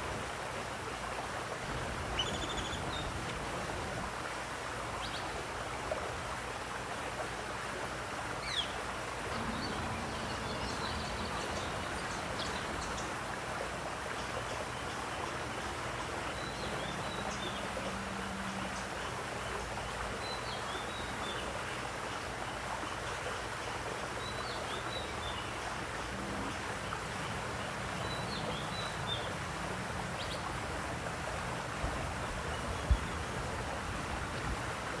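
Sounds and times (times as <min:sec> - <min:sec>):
running splashing water: 0:00.0 - 0:35.0.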